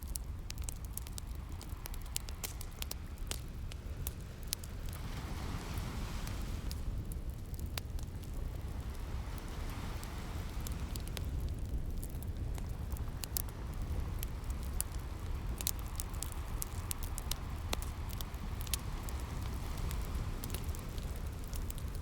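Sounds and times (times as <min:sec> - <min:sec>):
fire popping and snapping: 0:00.0 - 0:22.0
wood fire crackling: 0:00.0 - 0:22.0
ocean waves: 0:04.1 - 0:22.0.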